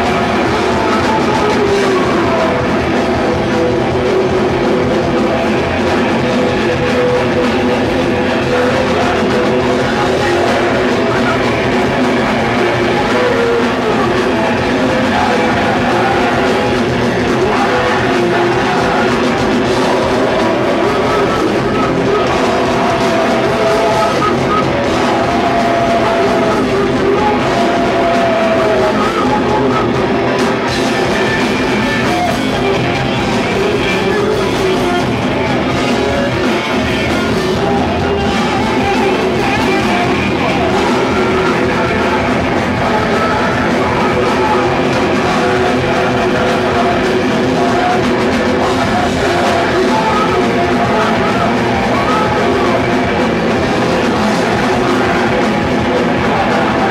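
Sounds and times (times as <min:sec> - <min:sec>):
drum kit: 0:00.0 - 0:56.9
loud rock music: 0:00.0 - 0:56.9
person singing: 0:00.0 - 0:56.9.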